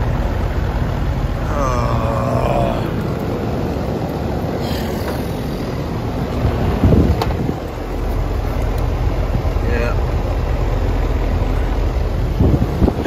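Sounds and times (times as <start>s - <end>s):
condensing unit humming: 0.0s - 13.0s.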